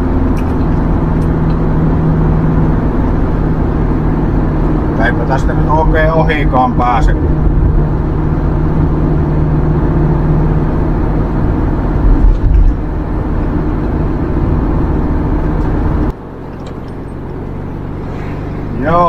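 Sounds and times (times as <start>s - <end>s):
minibus engine and road noise: 0.0s - 19.0s.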